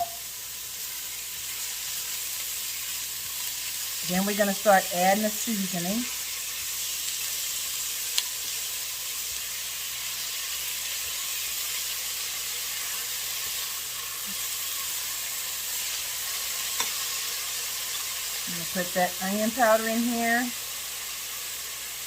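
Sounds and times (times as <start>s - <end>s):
vegetables sizzling in a pot: 0.0s - 22.0s.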